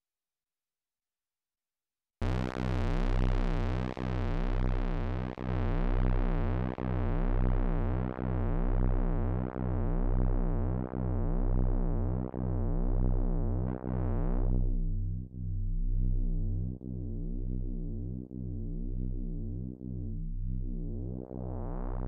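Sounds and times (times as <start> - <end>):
synthesizer bass note throbbing: 2.2 - 22.0.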